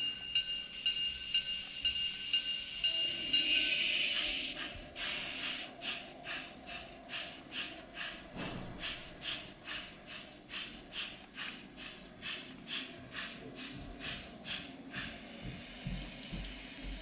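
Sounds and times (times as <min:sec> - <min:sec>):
steam locomotive exhaust chuffs: 0:00.0 - 0:17.0
loud steam hiss: 0:02.8 - 0:17.0.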